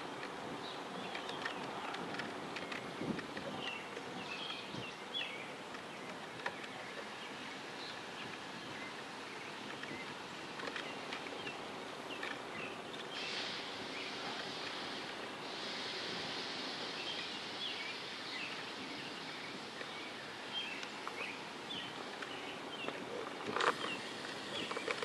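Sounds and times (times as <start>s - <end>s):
steam hissing: 0.0s - 25.0s
steam locomotive rolling: 0.0s - 25.0s
small birds chirping: 0.5s - 25.0s.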